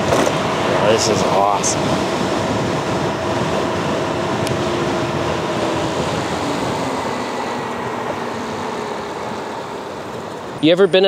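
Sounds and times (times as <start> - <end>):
road noise: 0.0 - 11.0
rushing wind: 0.0 - 11.0
faint electric motor whine: 0.1 - 11.0.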